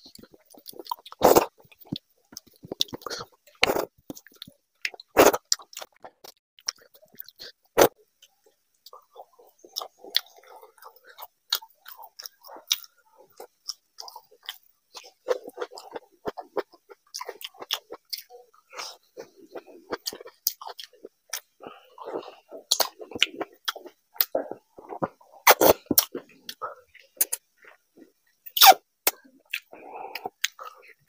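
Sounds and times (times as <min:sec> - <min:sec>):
man chewing food: 0:00.0 - 0:31.0.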